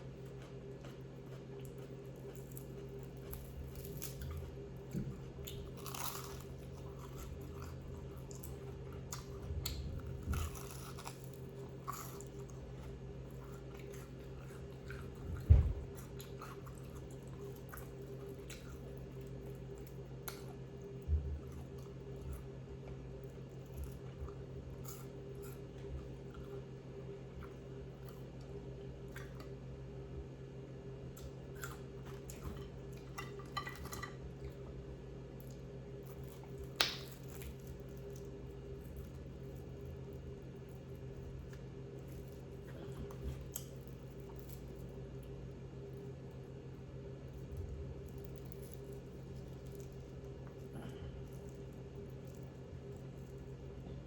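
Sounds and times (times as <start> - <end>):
crunchy chicken being chewed: 0.0 - 54.0
steady low hum: 0.0 - 54.0.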